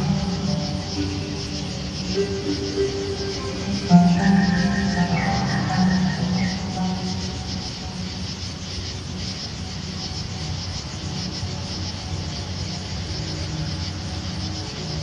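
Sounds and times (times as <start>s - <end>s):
low sustained tones: 0.0s - 15.0s
night insects chorus: 0.0s - 15.0s.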